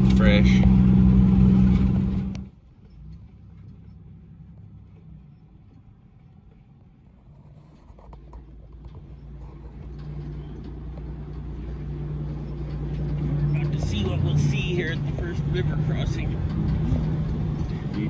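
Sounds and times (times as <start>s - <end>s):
vehicle engine running: 0.0s - 18.0s
light knocks and rattles: 0.5s - 18.0s.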